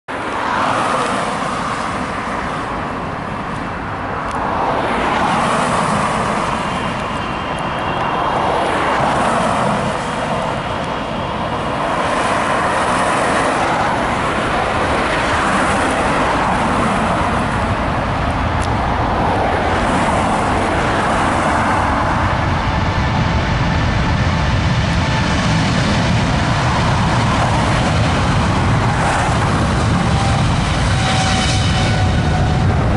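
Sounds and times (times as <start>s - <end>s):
jet engines roaring at takeoff: 0.1s - 32.9s.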